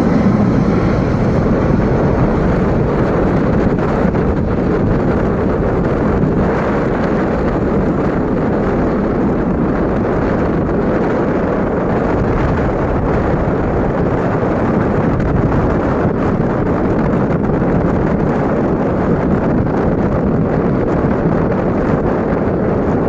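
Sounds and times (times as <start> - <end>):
airliner engines rumbling: 0.0 - 23.0
wind buffeting microphone: 0.0 - 23.0.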